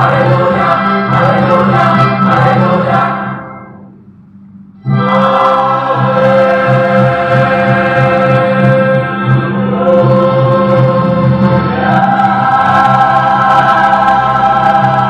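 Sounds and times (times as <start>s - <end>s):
mixed choir singing a hymn: 0.0s - 3.6s, 4.9s - 15.0s.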